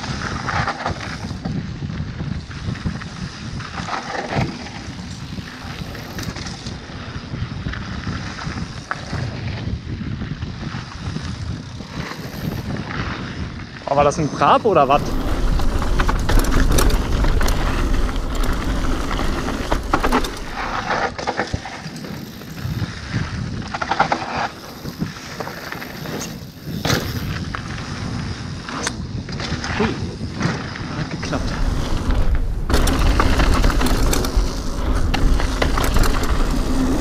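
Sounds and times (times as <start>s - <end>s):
bike rattling: 0.0s - 37.0s
tyres rolling on dirt: 0.0s - 37.0s
wind rumbling on microphone: 0.0s - 37.0s.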